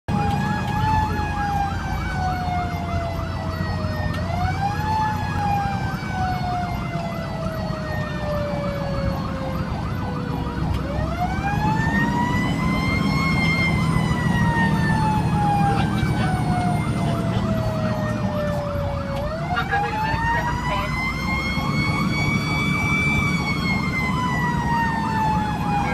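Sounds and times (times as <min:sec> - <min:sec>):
electronic siren yelping: 0:00.1 - 0:25.9
truck engine rumbling low: 0:00.1 - 0:25.9.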